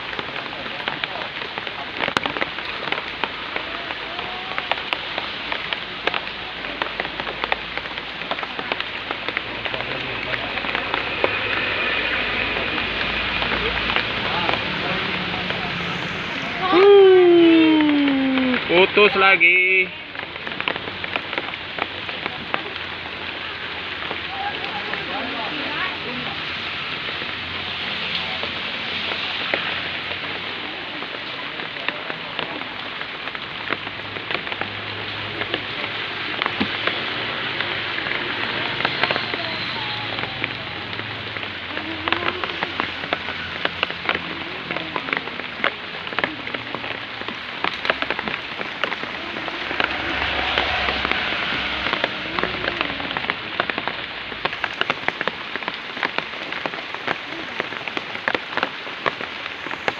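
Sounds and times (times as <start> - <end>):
faint voices murmuring: 0.0 - 59.9
raindrops pattering: 0.0 - 59.9
steady rain: 0.0 - 59.9.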